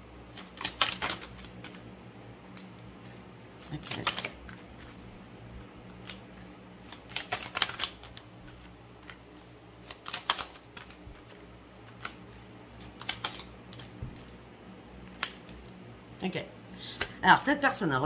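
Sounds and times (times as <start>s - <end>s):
cards being shuffled: 0.3s - 14.4s, 15.0s - 17.2s.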